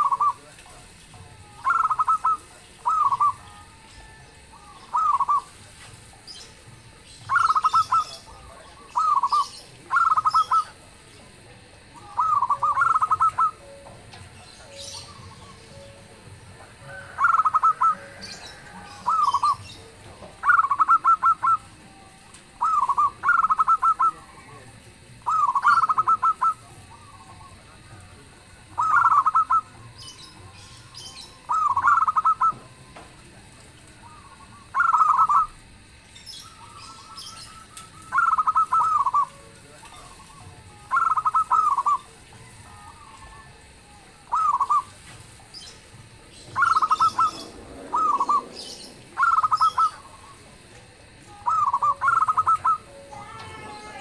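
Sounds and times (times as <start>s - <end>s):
dove cooing trills: 0.0s - 54.0s.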